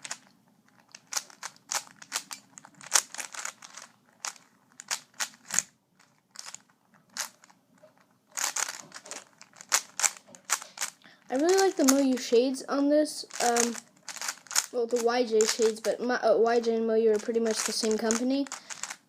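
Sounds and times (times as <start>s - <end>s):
puzzle cube clicking: 0.0s - 7.6s, 8.4s - 12.2s, 13.3s - 15.9s, 17.2s - 19.0s.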